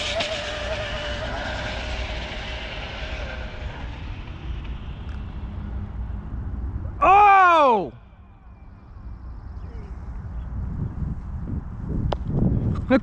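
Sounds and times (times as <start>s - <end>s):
low rumble: 0.0s - 12.7s
drivetrain whine: 0.0s - 13.0s
wind and tyre noise: 0.0s - 13.0s.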